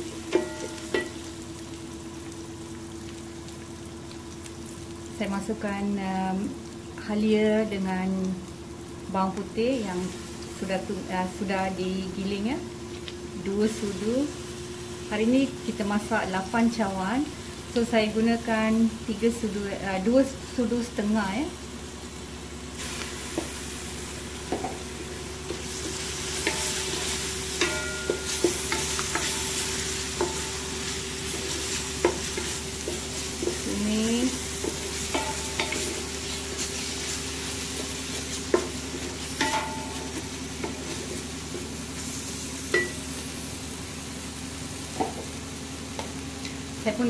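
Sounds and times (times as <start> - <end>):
paste sizzling in hot oil: 0.0 - 47.0.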